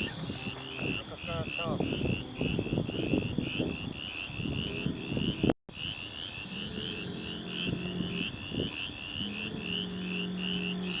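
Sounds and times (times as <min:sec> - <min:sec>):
frogs chirping: 0:00.0 - 0:11.0.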